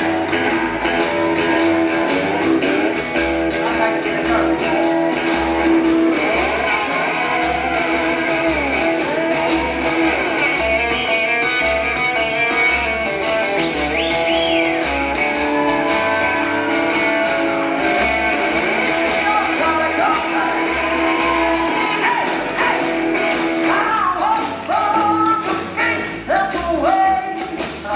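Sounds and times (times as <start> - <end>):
electric guitar bending notes: 0.0 - 26.3
bass and drums: 0.0 - 27.9.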